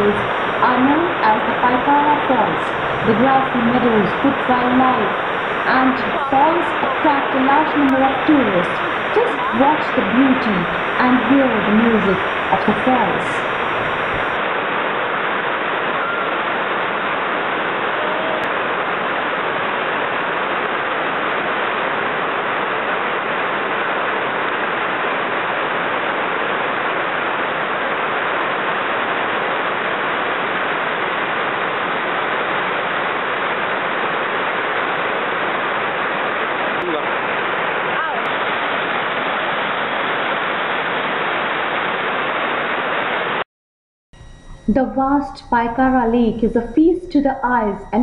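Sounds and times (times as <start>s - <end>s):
waterfall rushing over rocks: 0.0s - 43.4s.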